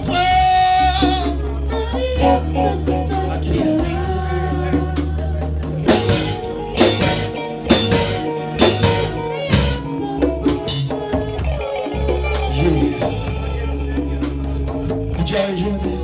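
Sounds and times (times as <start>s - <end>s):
live band playing: 0.0s - 16.0s
low bass notes: 0.0s - 16.0s.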